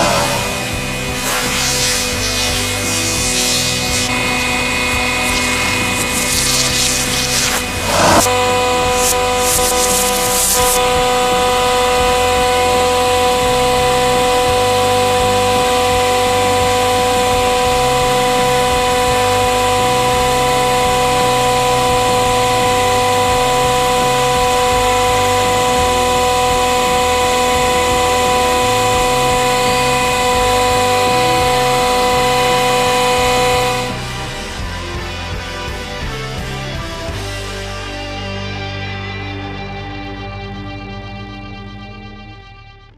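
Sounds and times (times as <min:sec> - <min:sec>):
hydraulic press pump whine: 0:00.0 - 0:38.4.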